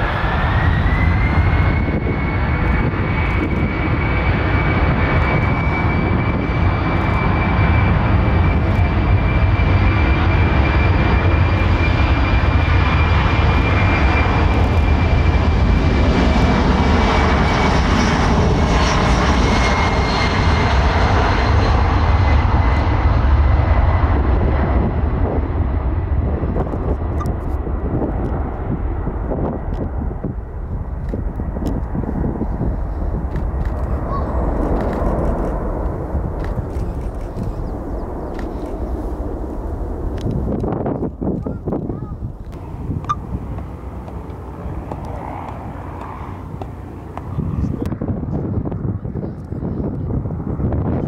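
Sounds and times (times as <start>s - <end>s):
deep engine rumble: 0.0s - 51.0s
jet engines whining: 0.0s - 51.0s.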